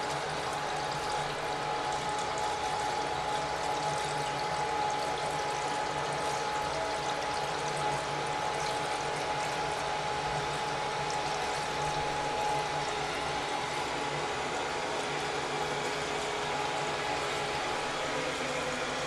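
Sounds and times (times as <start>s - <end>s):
toilet tank refilling: 0.0s - 19.0s.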